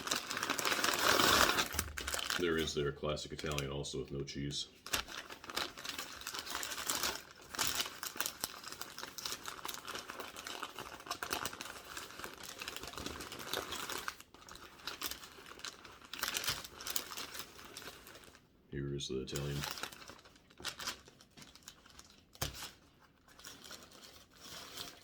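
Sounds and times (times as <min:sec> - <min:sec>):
paper wrapper crinkling: 0:00.0 - 0:18.5, 0:19.2 - 0:25.0.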